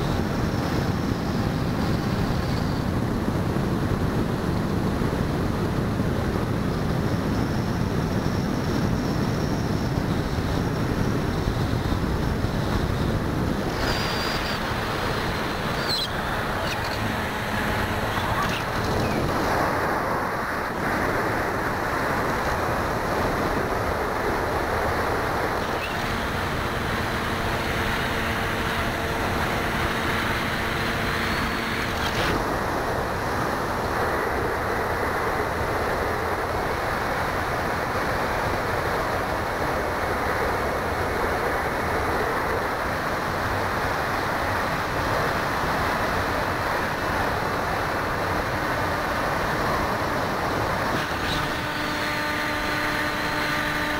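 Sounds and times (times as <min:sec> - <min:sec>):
model plane motor and propeller: 0:00.0 - 0:53.9
wind rushing over microphone: 0:00.0 - 0:53.9.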